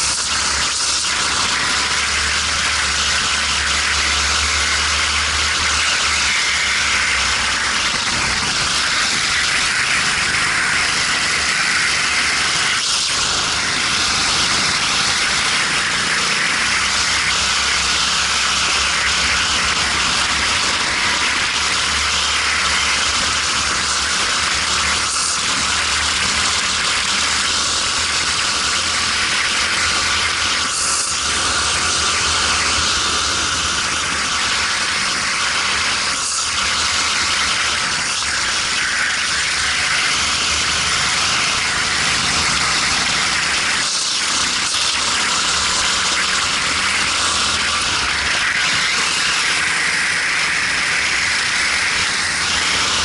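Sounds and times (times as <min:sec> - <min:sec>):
kart engine running under load: 0:00.0 - 0:53.0.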